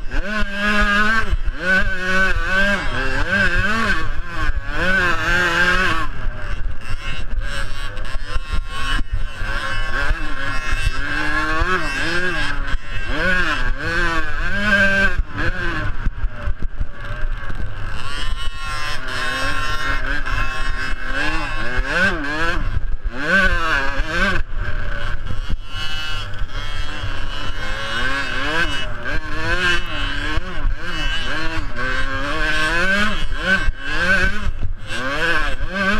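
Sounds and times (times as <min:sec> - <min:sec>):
motocross bike engines revving: 0:00.0 - 0:35.9.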